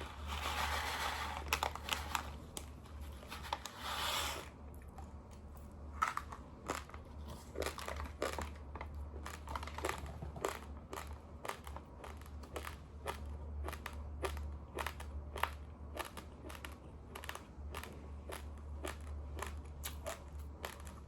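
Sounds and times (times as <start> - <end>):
rice being chewed: 0.0 - 21.0.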